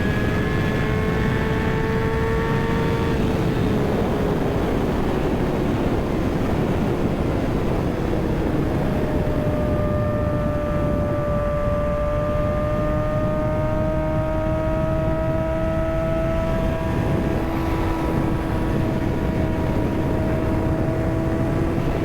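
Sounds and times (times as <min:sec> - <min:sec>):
motorcycle engine at speed: 0:00.0 - 0:22.0
wind rush: 0:00.0 - 0:22.0.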